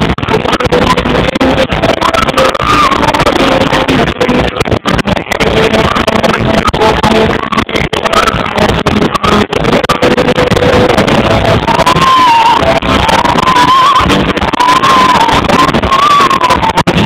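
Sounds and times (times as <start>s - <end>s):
hard rock band playing loud: 0.0s - 17.0s.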